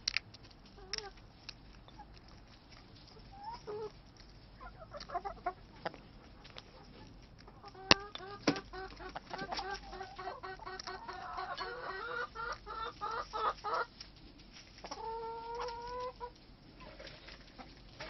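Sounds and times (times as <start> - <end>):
hens clucking: 0.6 - 18.0.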